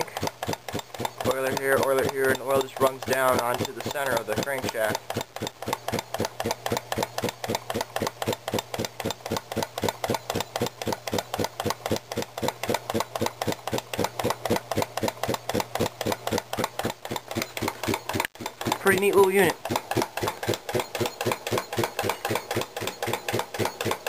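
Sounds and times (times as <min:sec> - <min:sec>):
air compressor rhythmic beat: 0:00.0 - 0:24.0
electric motor hum: 0:00.0 - 0:24.0.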